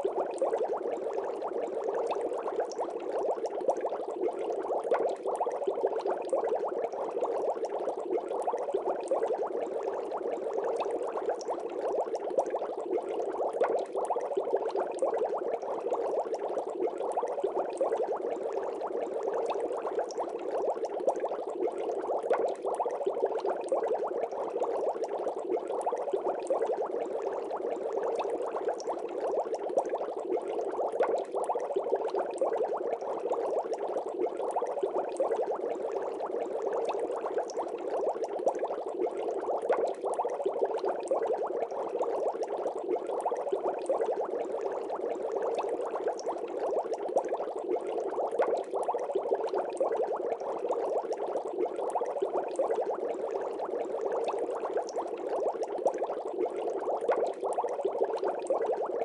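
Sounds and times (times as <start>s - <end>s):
aquarium water bubbling: 0.0s - 59.0s.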